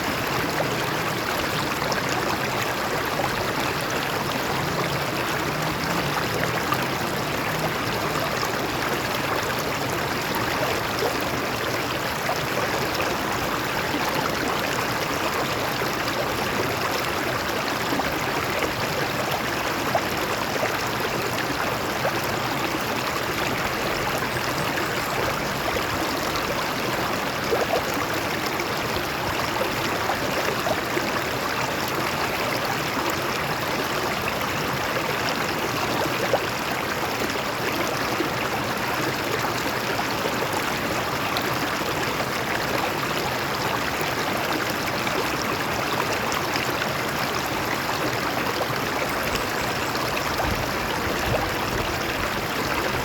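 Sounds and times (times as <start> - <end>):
stream splashing over rocks: 0.0 - 53.0.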